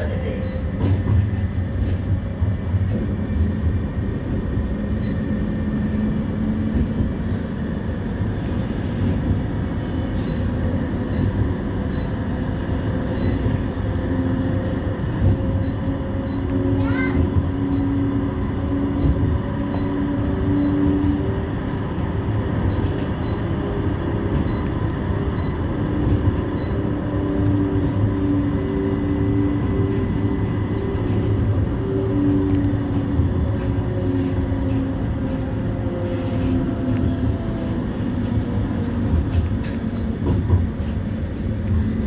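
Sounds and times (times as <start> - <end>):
tram wheels rumbling on rails: 0.0 - 42.0.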